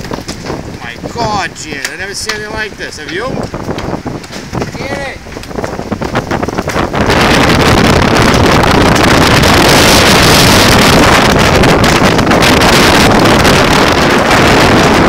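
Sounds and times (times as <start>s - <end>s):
wind gusting across microphone: 0.0s - 15.0s.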